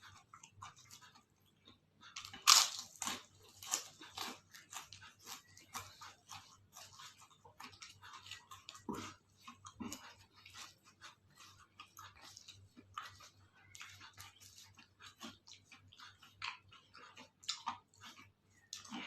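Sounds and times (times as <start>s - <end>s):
chewing and crunching food: 0.0s - 19.0s.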